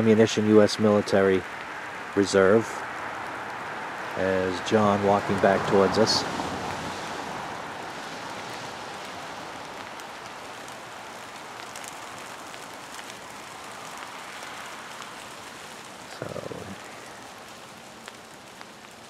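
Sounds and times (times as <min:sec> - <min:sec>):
rain falling on branches: 0:00.0 - 0:19.0.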